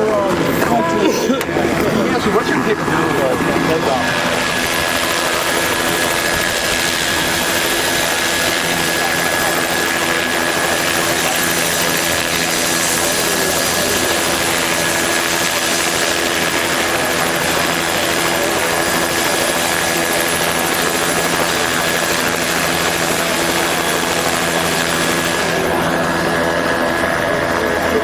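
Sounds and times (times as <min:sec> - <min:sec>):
helicopter rotor noise: 0:00.0 - 0:28.0
helicopter turbine engine whine: 0:00.0 - 0:28.0.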